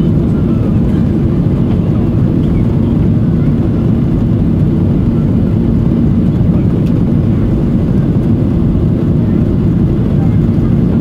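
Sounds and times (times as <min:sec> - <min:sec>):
jet engines at climb power: 0:00.0 - 0:11.0.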